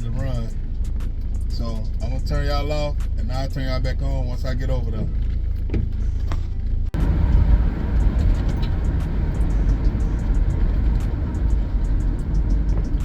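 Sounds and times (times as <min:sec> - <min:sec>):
road rumble inside vehicle: 0:00.0 - 0:13.0.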